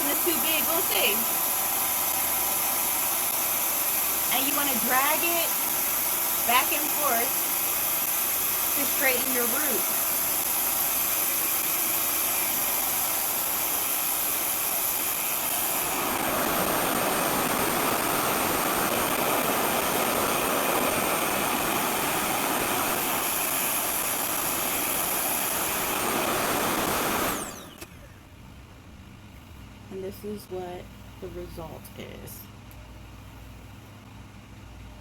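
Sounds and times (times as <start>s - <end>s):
hair dryer blowing with high whine: 0.0s - 28.2s.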